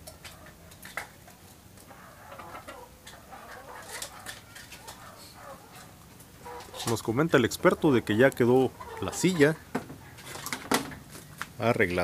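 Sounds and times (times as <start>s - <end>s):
chickens clucking: 0.7s - 10.6s.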